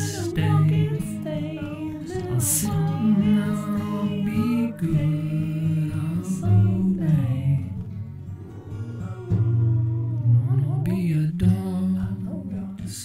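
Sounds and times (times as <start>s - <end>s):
song with person singing: 0.0s - 13.0s.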